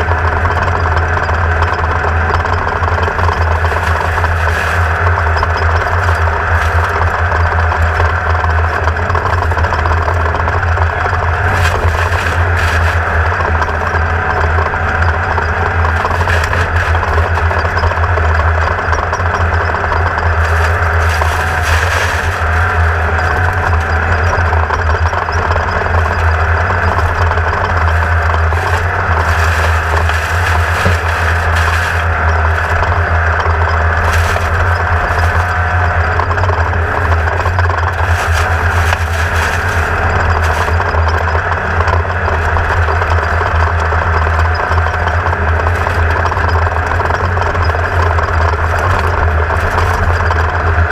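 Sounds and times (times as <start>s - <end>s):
buggy engine running hard: 0.0s - 50.9s
chassis rattling: 0.0s - 50.9s
jolts over rough ground: 0.0s - 50.9s.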